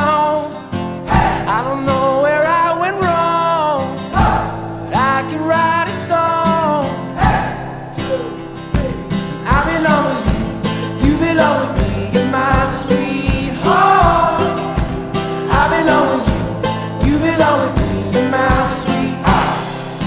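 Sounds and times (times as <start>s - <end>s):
song with acoustic instruments: 0.0s - 20.0s.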